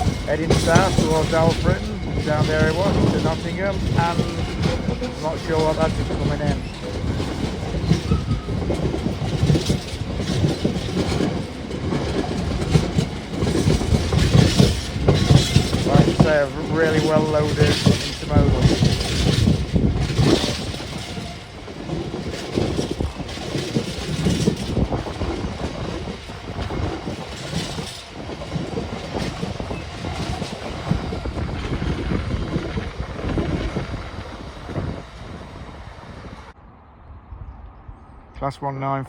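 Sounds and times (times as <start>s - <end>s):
wheels clacking over rails: 0.0s - 36.6s
train wagons rumbling past: 0.0s - 38.3s.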